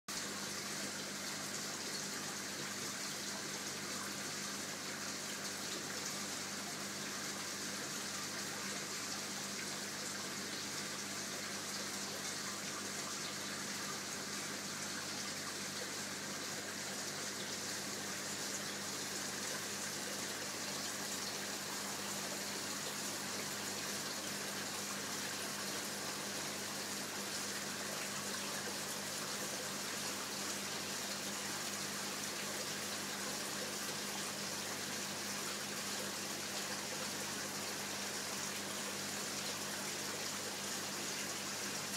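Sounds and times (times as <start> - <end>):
water rushing through pipes: 0.1 - 41.9.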